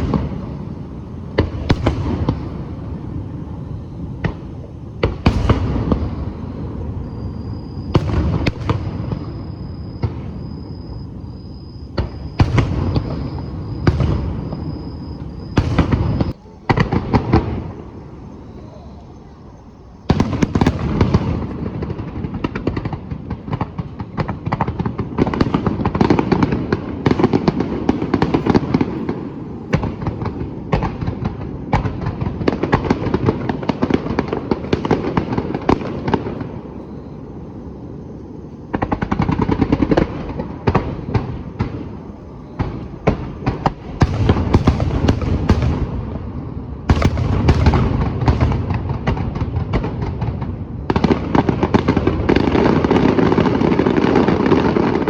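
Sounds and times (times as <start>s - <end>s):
fireworks crackling bangs: 0.0s - 55.0s
low rumbling fireworks booms: 0.0s - 55.0s.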